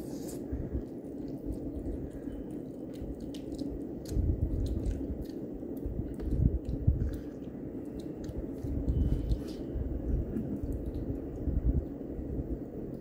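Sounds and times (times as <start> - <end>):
child chewing noodles: 0.0 - 13.0.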